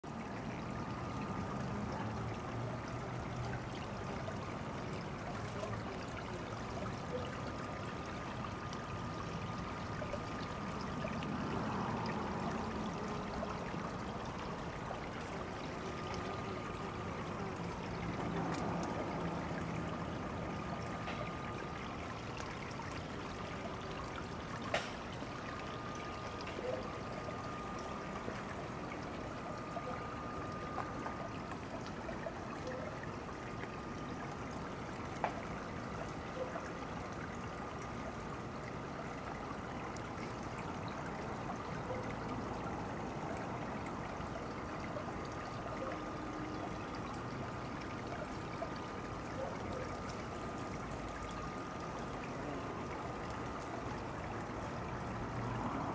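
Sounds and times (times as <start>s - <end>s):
water trickling over stones: 0.0s - 55.9s.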